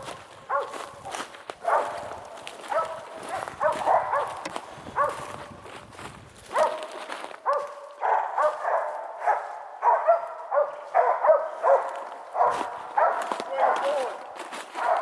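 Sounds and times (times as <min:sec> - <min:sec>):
dog barking: 0:00.0 - 0:05.5, 0:06.5 - 0:15.0.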